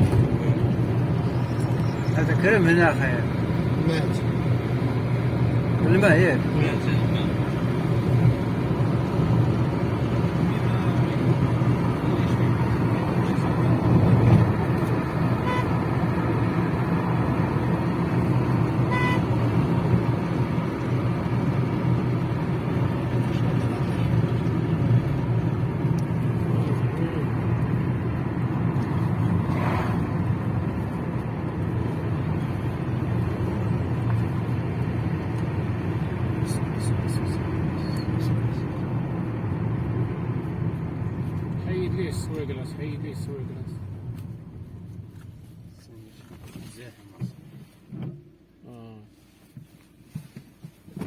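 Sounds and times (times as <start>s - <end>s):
car engine hum: 0.0s - 51.0s.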